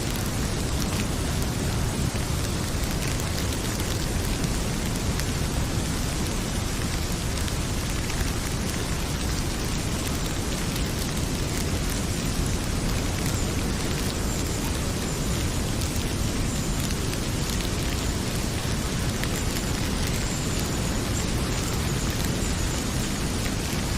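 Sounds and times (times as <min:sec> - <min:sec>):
heavy rain pouring: 0:00.0 - 0:23.9
wood fire crackling: 0:00.0 - 0:23.9.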